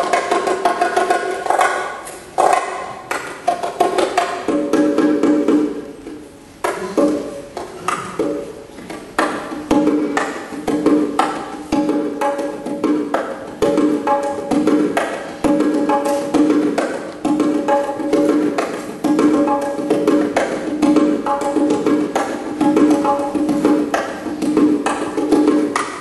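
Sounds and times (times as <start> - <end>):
bongos played by hand: 0.0 - 26.0.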